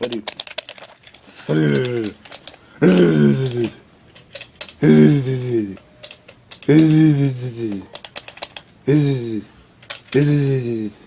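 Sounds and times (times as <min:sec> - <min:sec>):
person making wordless sounds: 0:01.3 - 0:03.9, 0:04.6 - 0:11.0.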